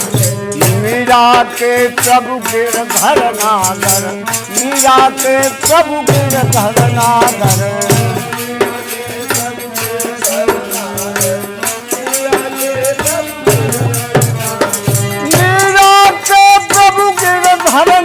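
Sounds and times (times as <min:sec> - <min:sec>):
hand drums: 0:00.0 - 0:18.0
held melody line: 0:00.0 - 0:18.0
shaken rattle percussion: 0:00.0 - 0:18.0.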